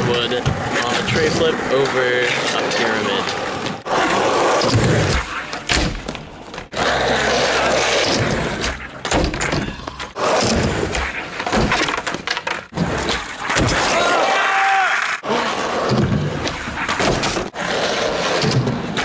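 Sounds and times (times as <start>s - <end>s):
skateboard wheels rolling on asphalt: 0.0s - 9.1s, 9.8s - 19.0s.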